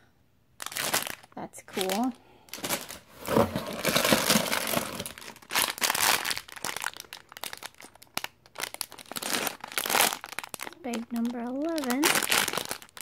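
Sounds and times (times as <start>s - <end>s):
plastic bag crinkling: 0.6s - 13.0s.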